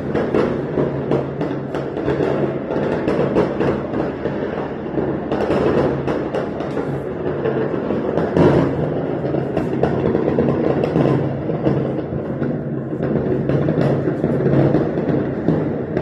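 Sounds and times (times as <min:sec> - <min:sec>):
distant fireworks bangs and crackling: 0:00.0 - 0:16.0
sharp firework cracks: 0:00.0 - 0:16.0.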